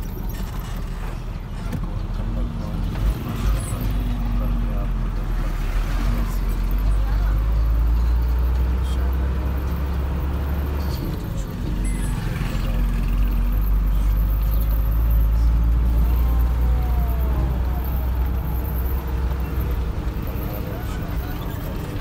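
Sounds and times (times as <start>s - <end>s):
road noise: 0.0s - 22.0s
truck engine droning: 0.0s - 22.0s.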